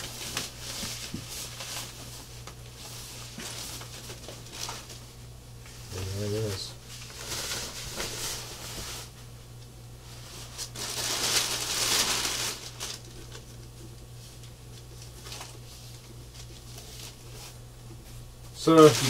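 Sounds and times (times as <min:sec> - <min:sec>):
plastic bag and foam rustling: 0:00.0 - 0:05.1, 0:05.8 - 0:09.2, 0:10.0 - 0:17.6, 0:18.6 - 0:19.0.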